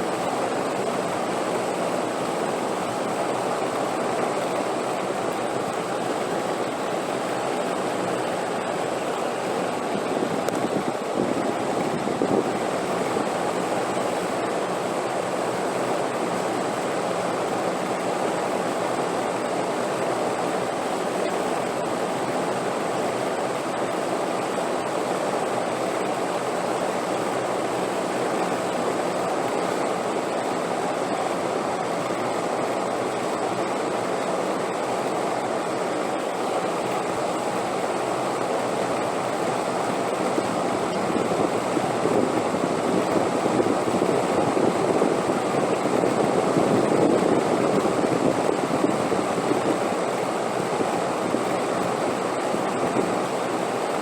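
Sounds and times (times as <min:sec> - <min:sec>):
rushing wind: 0:00.0 - 0:54.0.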